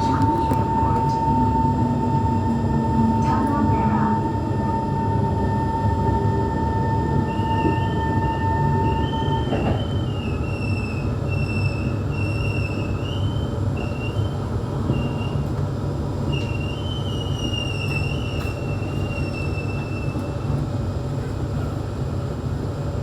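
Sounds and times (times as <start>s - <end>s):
metro train rumbling on rails: 0.0s - 23.0s.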